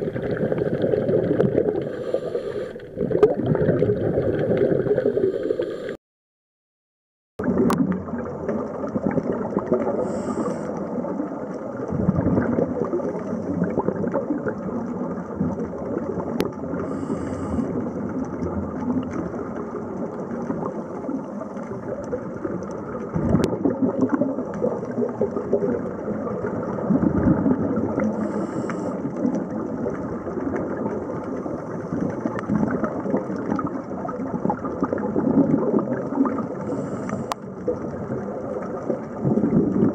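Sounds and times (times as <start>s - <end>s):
muffled underwater water noise: 0.0s - 6.0s, 7.4s - 39.9s.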